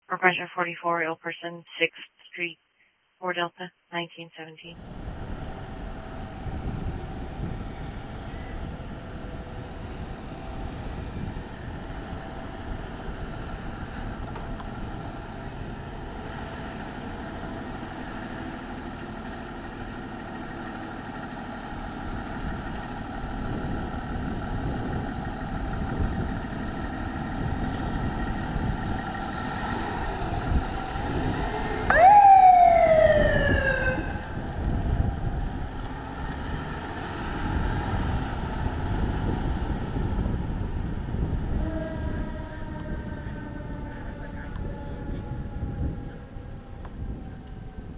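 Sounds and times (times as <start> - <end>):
fire engine siren wailing: 4.7 - 47.9.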